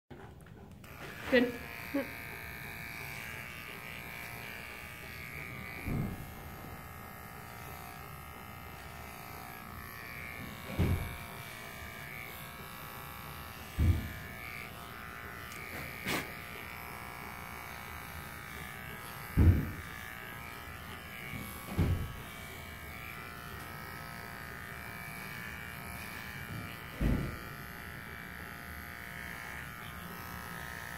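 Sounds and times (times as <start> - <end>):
pet clippers buzzing: 0.7 - 30.9.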